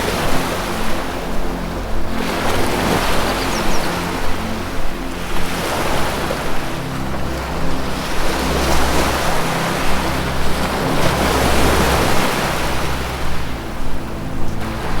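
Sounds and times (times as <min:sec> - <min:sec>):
low music drone: 0:00.0 - 0:15.0
ocean waves washing in: 0:00.0 - 0:15.0.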